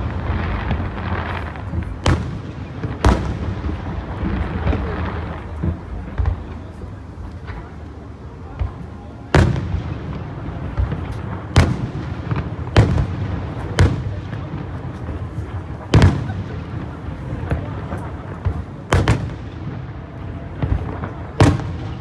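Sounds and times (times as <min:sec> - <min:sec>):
fireworks bangs: 0:00.0 - 0:22.0
fireworks pops: 0:00.0 - 0:22.0.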